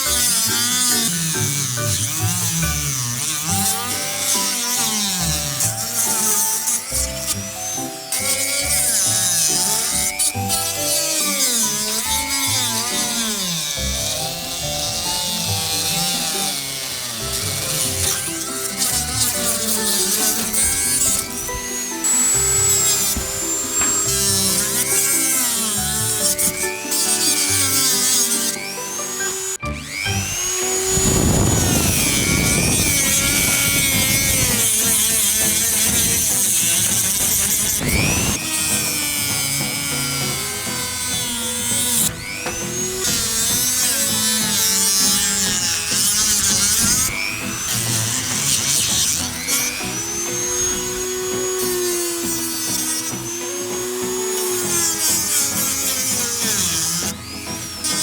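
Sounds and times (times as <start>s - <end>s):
rotary tool grinding plastic: 0.0s - 58.0s.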